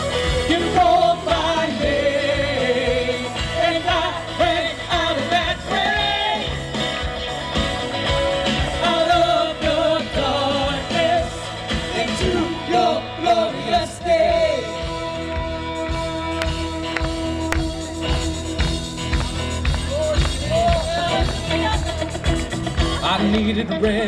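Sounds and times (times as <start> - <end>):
worship band with drums and bass: 0.0 - 24.0.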